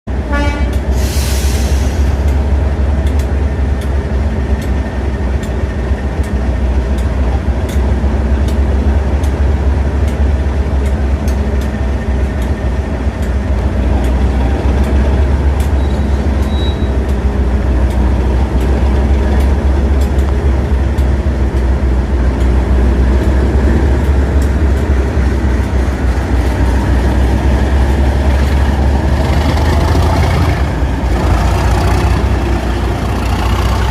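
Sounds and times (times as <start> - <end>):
diesel locomotive engine drone: 0.0 - 33.9.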